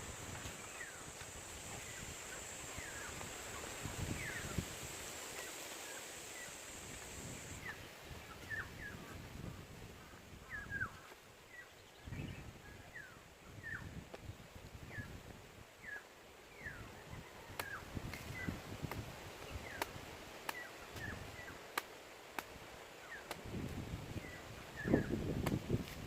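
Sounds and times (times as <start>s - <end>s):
forest birds chirping: 0.0s - 25.4s.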